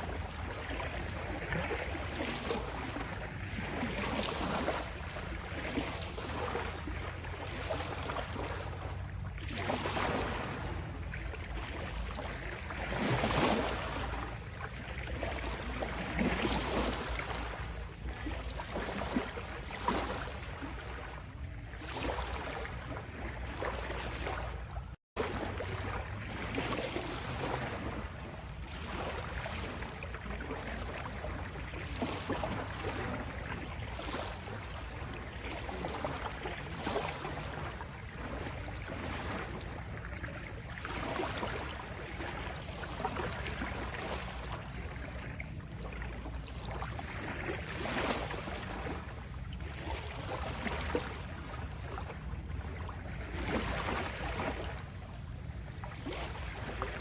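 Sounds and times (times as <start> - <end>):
small waves lapping on shore: 0.0 - 57.0.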